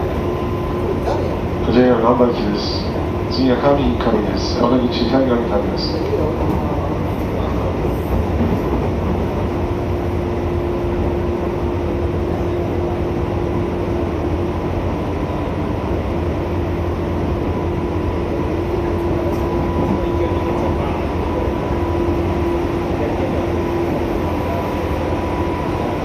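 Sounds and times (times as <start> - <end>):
electric train running: 0.0 - 26.0.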